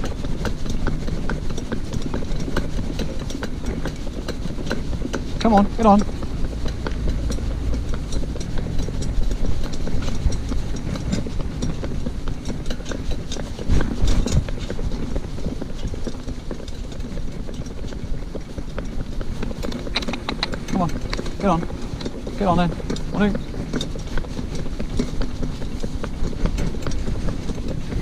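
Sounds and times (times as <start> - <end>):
cart wheels rumbling: 0.0 - 28.0
hooves clip-clopping on tarmac: 0.0 - 28.0.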